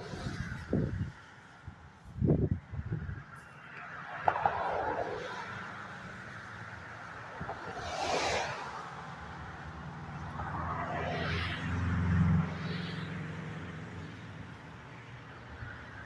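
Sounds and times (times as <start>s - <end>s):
whooshing gusts: 0.0s - 3.4s, 4.0s - 13.9s
vehicle engine drone: 0.0s - 16.0s.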